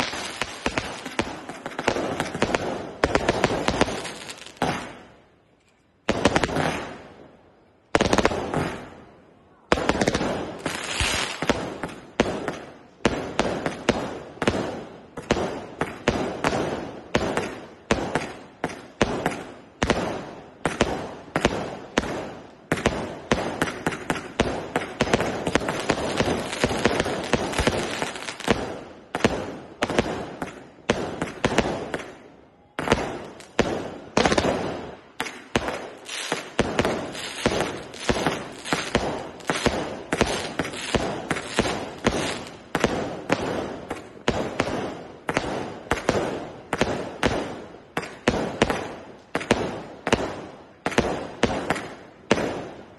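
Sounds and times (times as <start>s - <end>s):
fireworks exploding: 0.0s - 5.3s, 6.0s - 52.9s.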